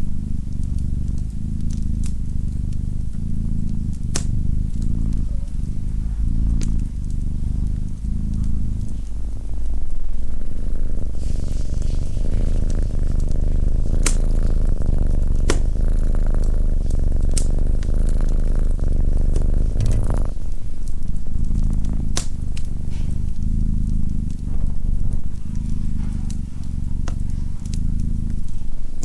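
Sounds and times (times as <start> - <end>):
wood fire popping: 0.0 - 11.2, 12.5 - 29.0
cat purring: 0.0 - 29.0.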